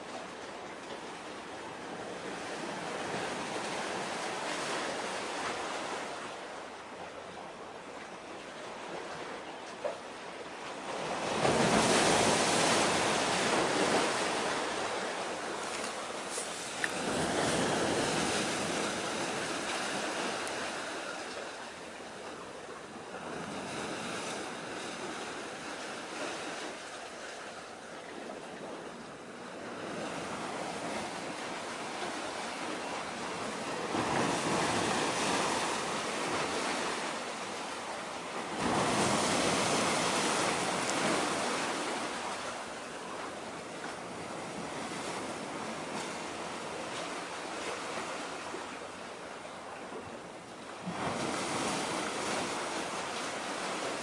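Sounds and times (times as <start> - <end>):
sea wind gusts: 0.0 - 54.0.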